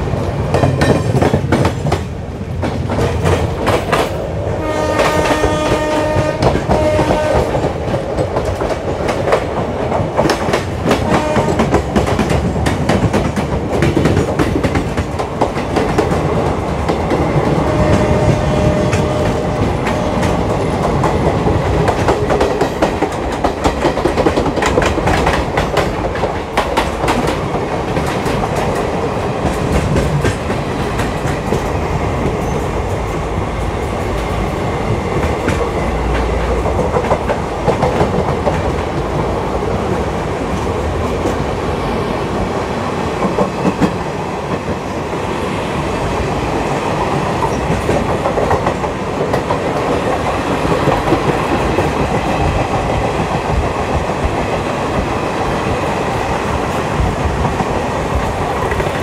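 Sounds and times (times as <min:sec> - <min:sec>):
rail joint clicks: 0:00.0 - 0:59.0
train wheels rumbling on rails: 0:00.0 - 0:59.0.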